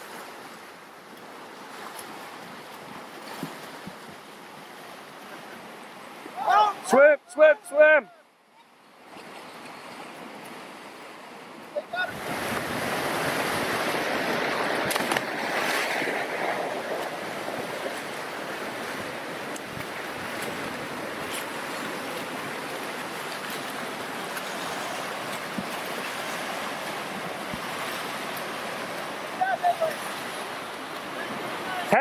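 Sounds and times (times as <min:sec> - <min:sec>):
river rapids rushing: 0:04.3 - 0:08.4, 0:10.0 - 0:32.0.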